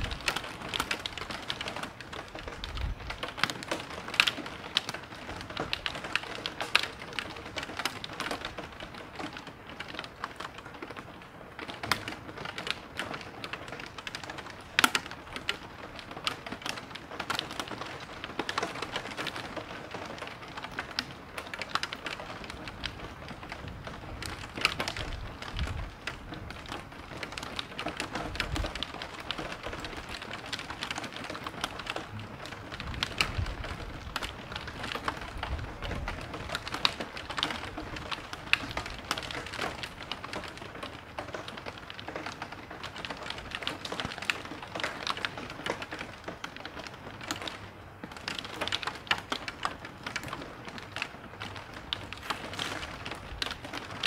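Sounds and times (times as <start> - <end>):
heavy rain: 0.0 - 54.0
raindrops ticking on hard surface: 0.0 - 54.0.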